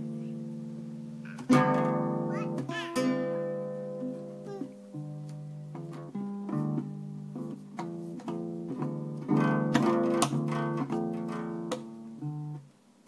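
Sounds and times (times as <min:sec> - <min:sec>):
acoustic guitar strums: 0:00.8 - 0:12.7.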